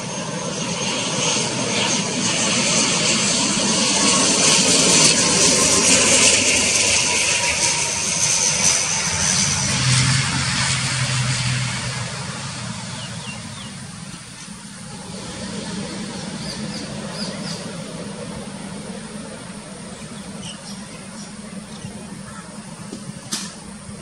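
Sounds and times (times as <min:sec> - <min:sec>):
turboprop engines droning: 0:00.0 - 0:24.0.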